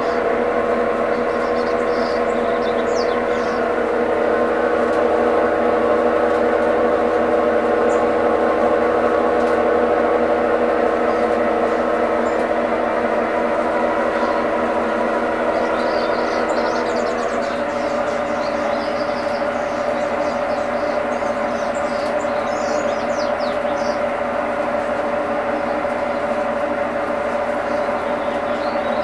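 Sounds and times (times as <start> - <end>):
washing machine whining hum: 0.0 - 29.0.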